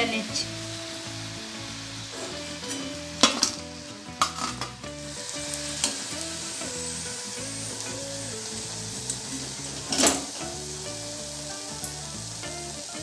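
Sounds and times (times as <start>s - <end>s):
faint background music: 0.0s - 13.0s
food sizzling in hot oil: 0.0s - 13.0s.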